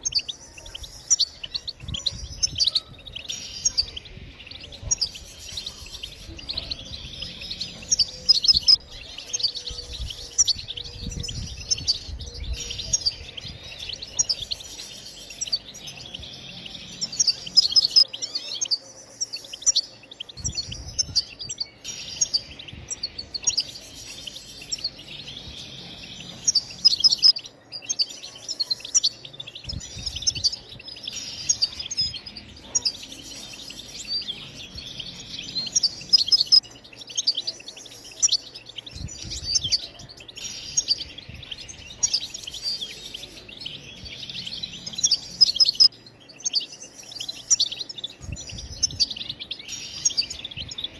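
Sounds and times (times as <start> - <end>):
goldfinch twittering song: 0.0 - 50.9.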